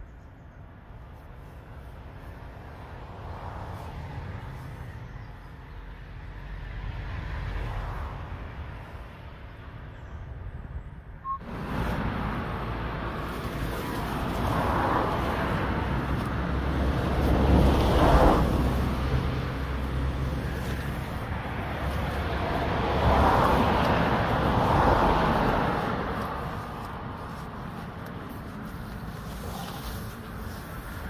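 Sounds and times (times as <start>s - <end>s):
low traffic rumble: 0.0s - 31.0s
vehicles passing: 0.0s - 31.0s.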